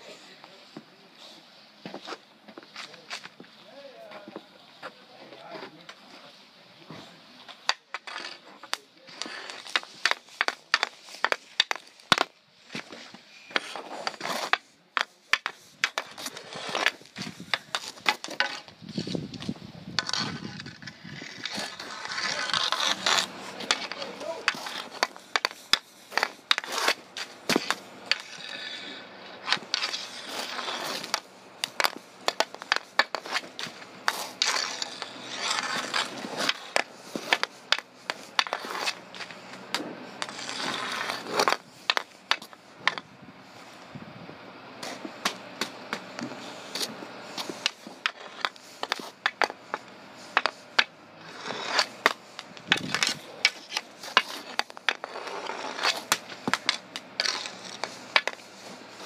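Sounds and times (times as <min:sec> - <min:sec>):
stick blade scraping pavement: 0:00.0 - 0:44.0, 0:44.7 - 0:59.0
hockey stick striking ball: 0:07.5 - 0:19.2, 0:20.0 - 0:43.1, 0:44.8 - 0:59.0.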